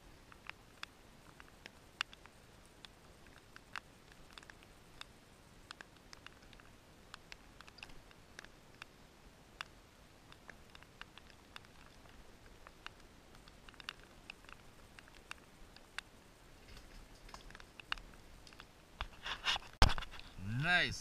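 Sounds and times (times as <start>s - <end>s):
faint light ticks and clicks: 0.0s - 20.9s.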